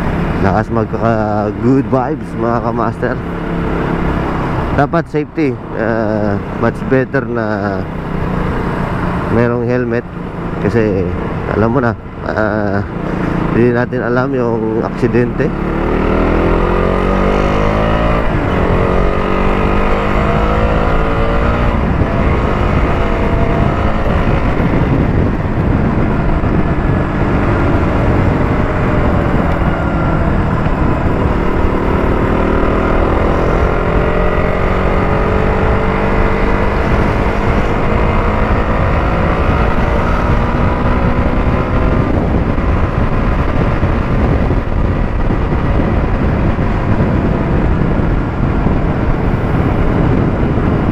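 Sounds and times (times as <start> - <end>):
motorcycle engine accelerating: 0.0 - 50.9
road and wind rumble: 0.0 - 50.9.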